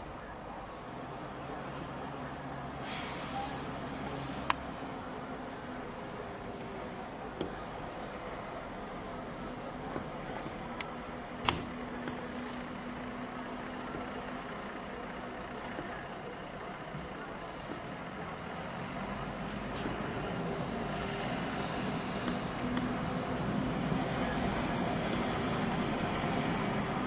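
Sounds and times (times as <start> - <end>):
road traffic hum: 0.0 - 27.0
vehicle approaching: 0.0 - 27.0.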